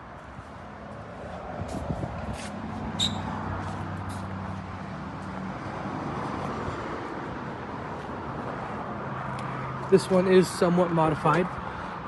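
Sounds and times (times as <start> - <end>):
traffic noise: 0.0 - 12.0
vehicle engine humming: 0.0 - 12.0.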